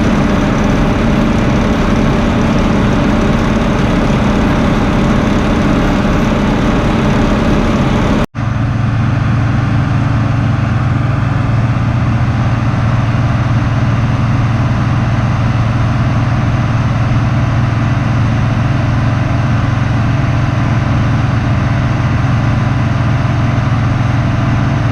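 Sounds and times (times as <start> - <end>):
heavy farm machinery engine: 0.0 - 24.9.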